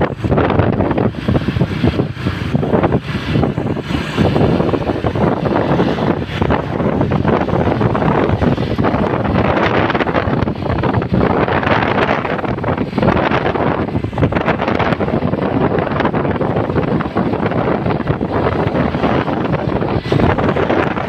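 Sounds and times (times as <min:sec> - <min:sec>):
road and engine noise: 0:00.0 - 0:21.0
wind buffeting microphone: 0:00.0 - 0:21.0.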